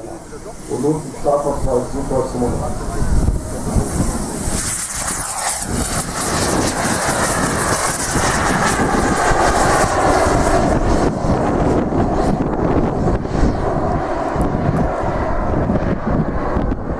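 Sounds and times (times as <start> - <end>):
model jet turbines at takeoff: 0.0 - 16.9.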